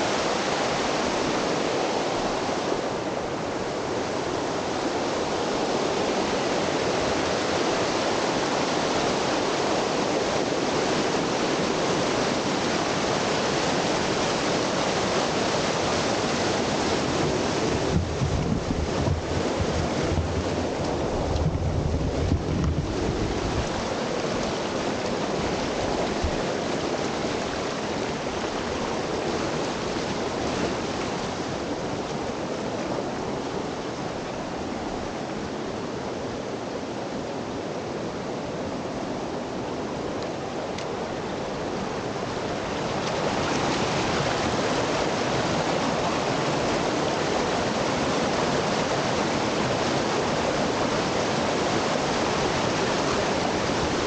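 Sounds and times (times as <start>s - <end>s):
waterfall rushing over rock: 0.0s - 54.0s.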